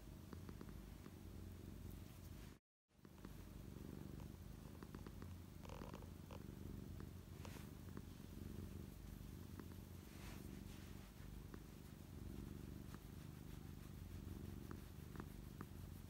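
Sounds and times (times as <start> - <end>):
cat purring softly: 0.0 - 16.0.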